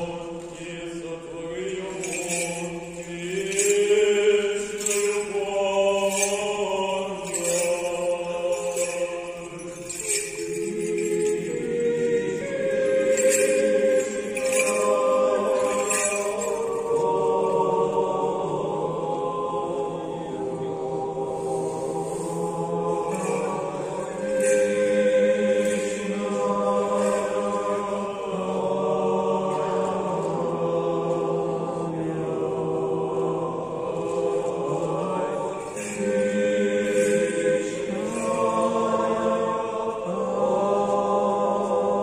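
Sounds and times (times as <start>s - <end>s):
choir singing chant: 0.0s - 42.0s.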